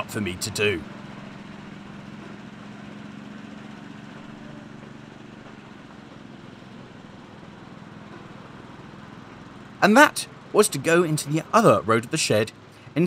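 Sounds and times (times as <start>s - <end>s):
small petrol engine humming: 0.0s - 13.0s.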